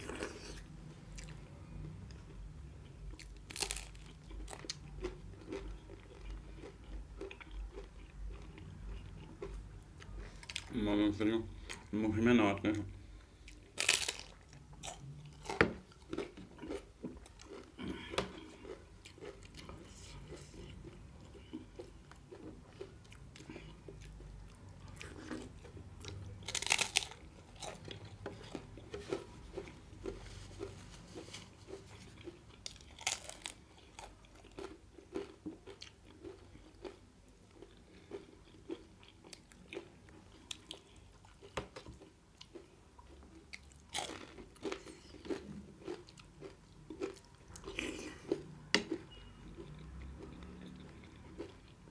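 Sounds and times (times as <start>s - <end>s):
chewing and biting food: 0.0s - 10.7s, 13.4s - 51.9s.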